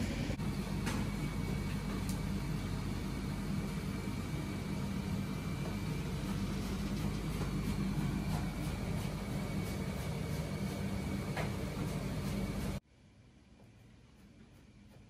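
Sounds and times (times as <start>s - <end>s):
kitchen machinery rumbling: 0.0s - 12.8s.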